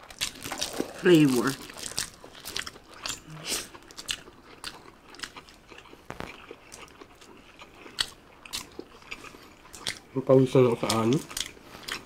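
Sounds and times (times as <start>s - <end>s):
chewing and lip smacks: 0.0s - 12.0s.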